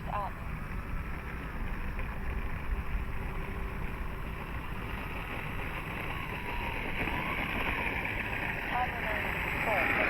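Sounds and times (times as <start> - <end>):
small electric motor whine: 0.2 - 10.0.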